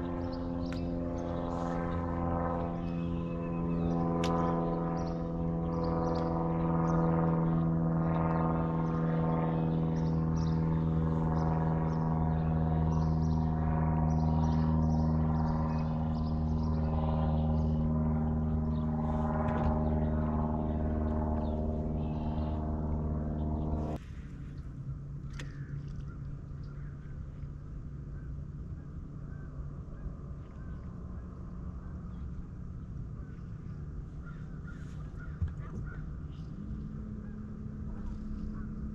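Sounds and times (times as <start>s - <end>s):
birds chirping: 0.0s - 24.0s, 25.3s - 38.9s
electric trolling motor humming: 0.0s - 38.9s
faint low hum: 0.0s - 38.9s.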